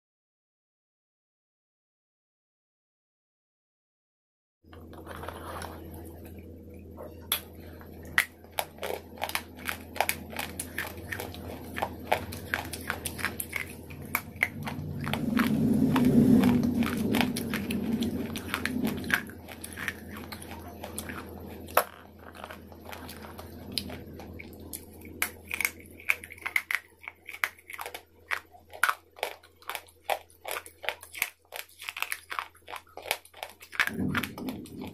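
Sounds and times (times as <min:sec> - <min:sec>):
faint low hum: 0:04.7 - 0:34.9
crunchy chewing: 0:04.8 - 0:34.9.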